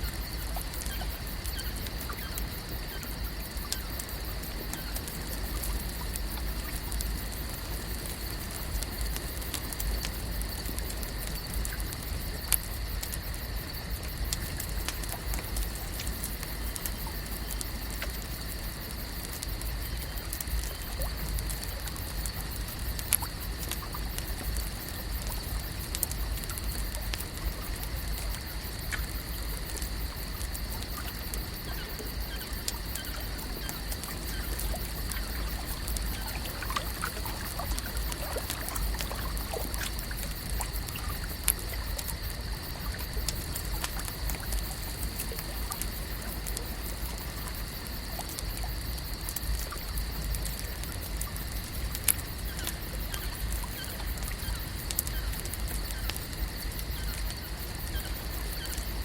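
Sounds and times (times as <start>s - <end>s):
small scattered clicks and pops: 0.0s - 59.0s
water lapping and trickling: 0.0s - 59.0s.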